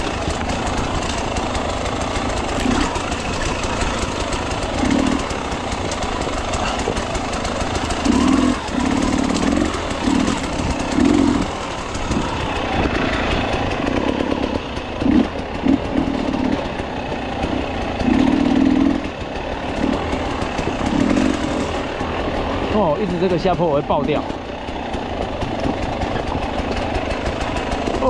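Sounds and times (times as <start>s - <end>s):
dirt bike engine throttle blips: 0.0s - 28.0s.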